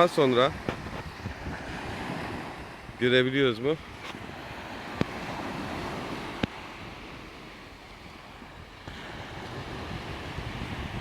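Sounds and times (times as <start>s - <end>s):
sea water washing: 0.0s - 11.0s
wind on microphone: 0.0s - 11.0s.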